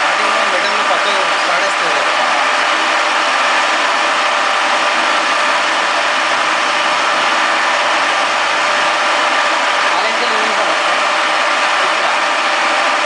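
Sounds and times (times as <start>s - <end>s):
milling machine running: 0.0s - 13.0s.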